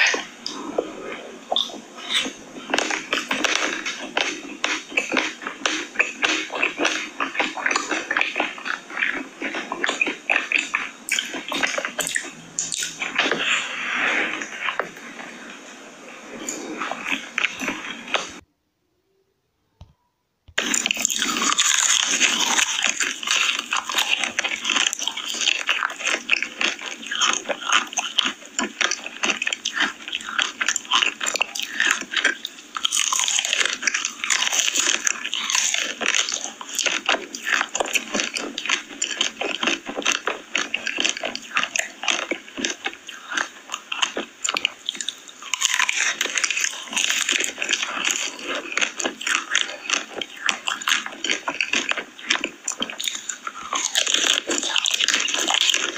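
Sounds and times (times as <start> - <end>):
person chewing crunchy food: 0.0 - 18.4, 20.6 - 55.9.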